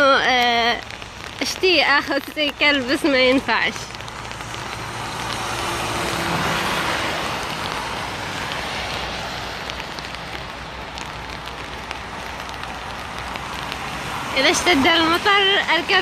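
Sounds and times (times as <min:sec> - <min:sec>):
light rain: 0:00.0 - 0:16.0
vehicle tyre hiss on wet road: 0:00.7 - 0:15.7.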